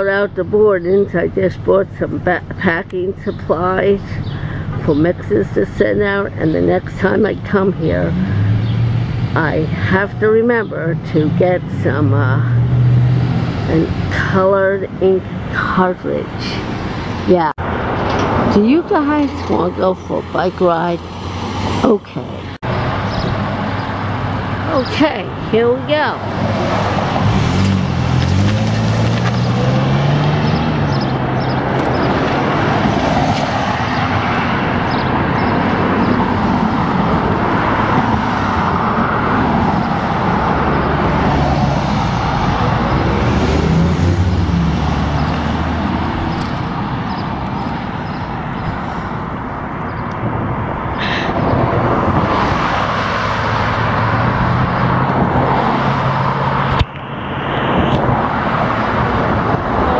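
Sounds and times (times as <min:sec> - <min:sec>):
cars and trucks passing: 0:00.0 - 0:59.9
road noise rush: 0:00.0 - 0:59.9.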